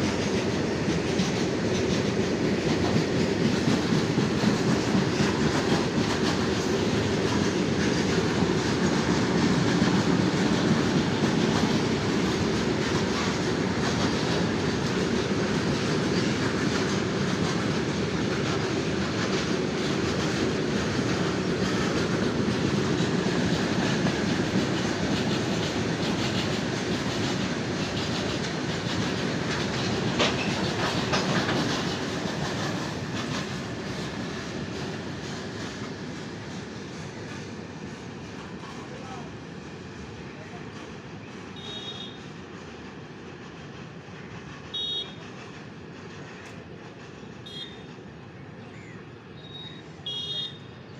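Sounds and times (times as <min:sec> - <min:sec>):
train wagons rolling on track: 0:00.0 - 0:50.9.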